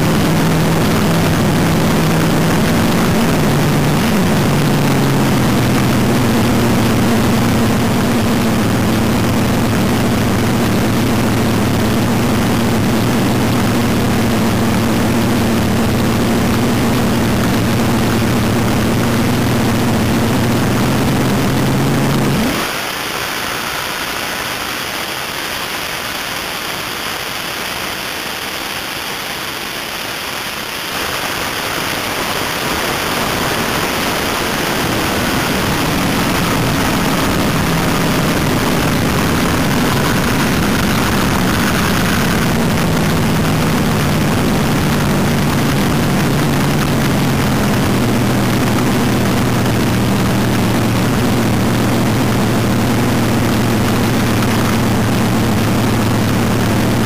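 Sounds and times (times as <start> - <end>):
drag car engine running: 0.0 - 28.5, 29.2 - 57.0.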